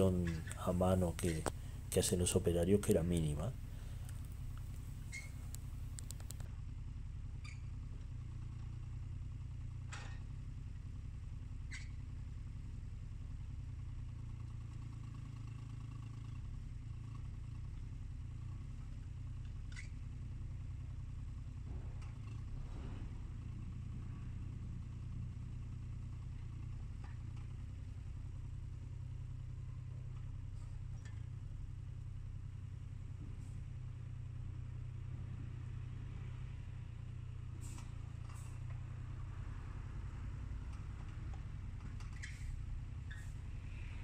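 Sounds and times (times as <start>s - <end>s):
mini excavator diesel engine: 0.0s - 44.0s.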